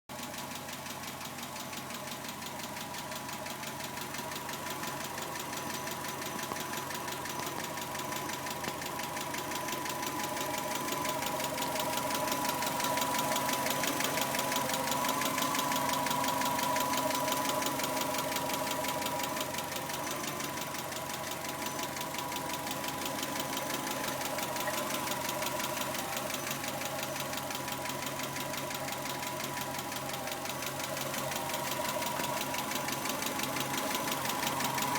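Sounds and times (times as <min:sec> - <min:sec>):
car engine running: 0:00.1 - 0:34.9
rapid even engine ticking: 0:00.1 - 0:34.9.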